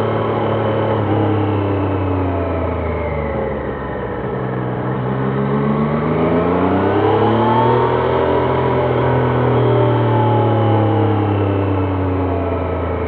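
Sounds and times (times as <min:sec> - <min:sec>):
motorcycle engine: 0:00.0 - 0:13.0.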